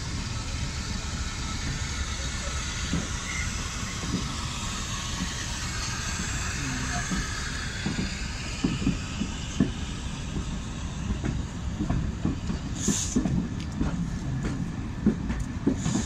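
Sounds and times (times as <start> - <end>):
train wheels rolling over track: 0.0 - 16.0.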